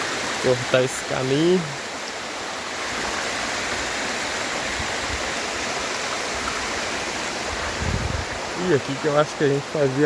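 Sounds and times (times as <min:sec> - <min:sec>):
waterfall and stream rushing: 0:00.0 - 0:10.0.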